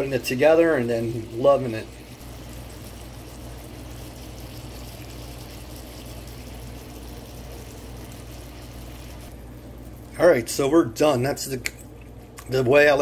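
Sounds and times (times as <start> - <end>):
burger patties sizzling in pan: 0.0 - 11.7
low steady hum: 0.0 - 13.0.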